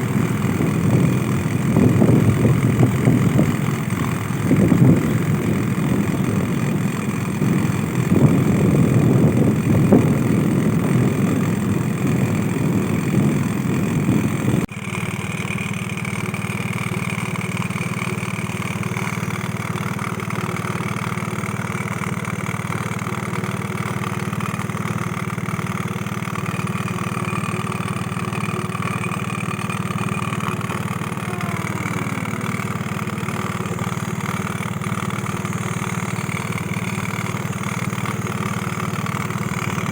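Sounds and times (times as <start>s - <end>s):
rough loud low noise: 0.0s - 15.4s, 18.0s - 39.9s
motor engine running: 0.0s - 39.9s.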